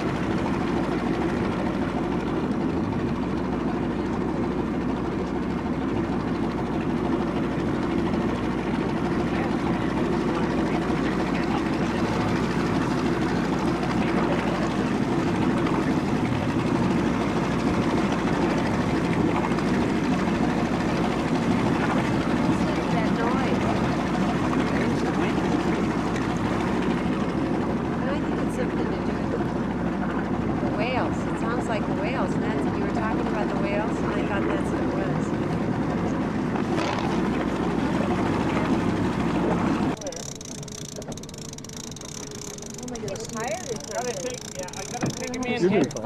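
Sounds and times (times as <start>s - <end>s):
motorboat engine droning: 0.0s - 46.0s.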